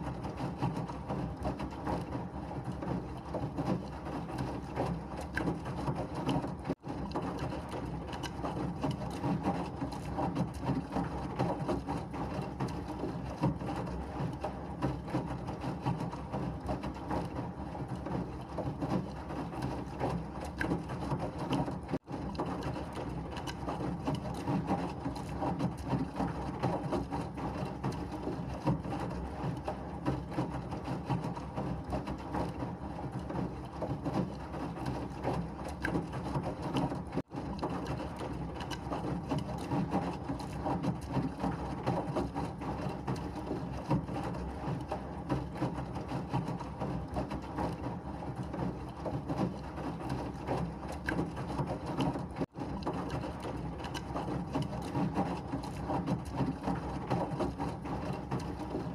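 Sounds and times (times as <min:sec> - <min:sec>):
washing machine churning and rattling: 0:00.0 - 0:58.9.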